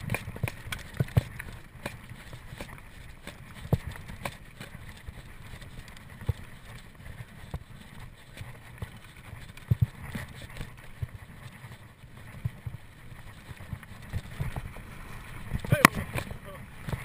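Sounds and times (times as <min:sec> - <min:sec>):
bike frame and chain clanking: 0:00.0 - 0:17.0
tyre and wind rushing: 0:00.0 - 0:17.0.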